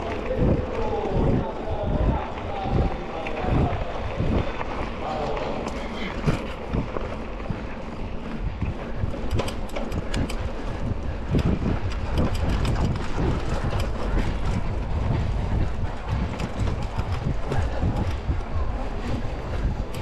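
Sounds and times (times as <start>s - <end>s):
bike clicks and rattles: 0.0s - 20.0s
low rumble: 0.0s - 20.0s
wind buffeting microphone: 0.0s - 20.0s.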